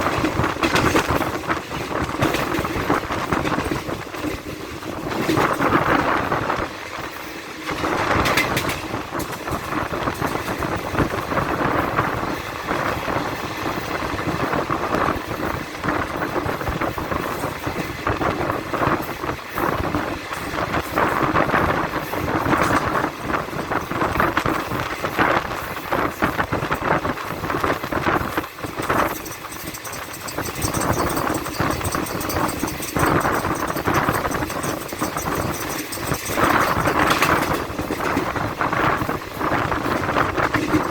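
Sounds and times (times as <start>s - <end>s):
train wheels clattering on track: 0.0s - 40.9s.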